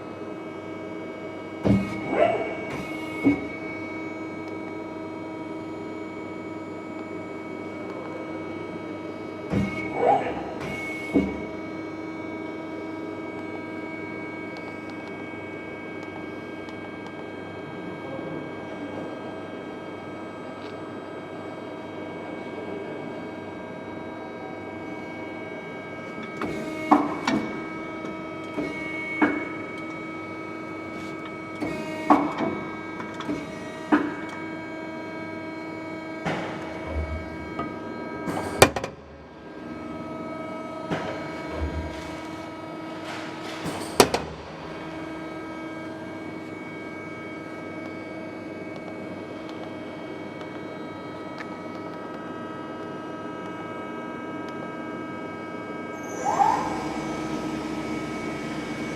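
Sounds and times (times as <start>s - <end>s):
machine humming and whining: 0.0s - 58.9s.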